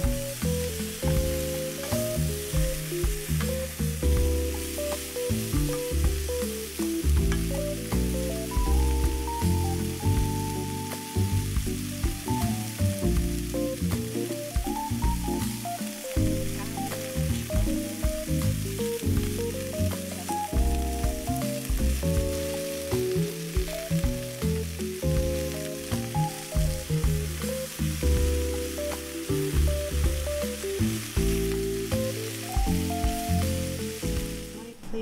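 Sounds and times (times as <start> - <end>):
background music with bass line: 0.0 - 34.7
vegetables sizzling in a wok: 0.0 - 35.0.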